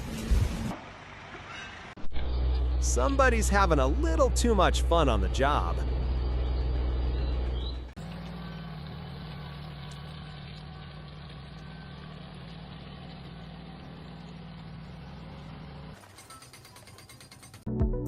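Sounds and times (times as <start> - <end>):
engine running steadily: 2.0 - 16.7.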